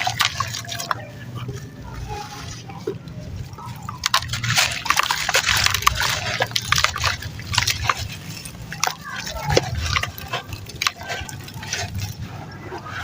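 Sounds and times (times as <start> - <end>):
chunks crumbling in water: 0.0 - 13.0
water splashes and drips: 0.0 - 13.0.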